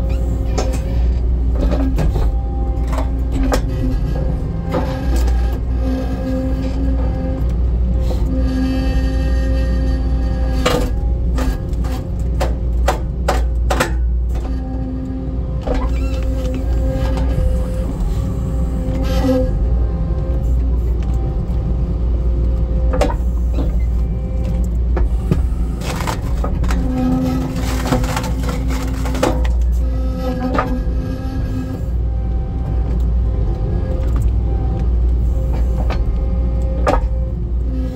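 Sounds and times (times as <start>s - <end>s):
hydraulic whine: 0.0s - 13.1s, 14.2s - 37.9s
skid steer engine running: 0.0s - 37.9s.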